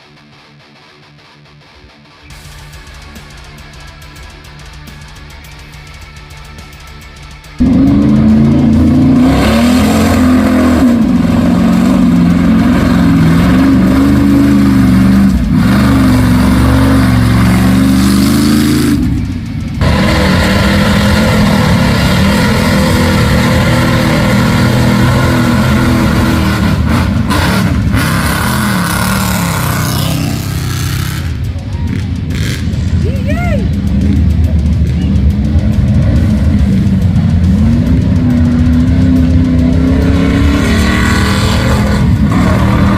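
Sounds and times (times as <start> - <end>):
truck engine revving: 2.3 - 42.9.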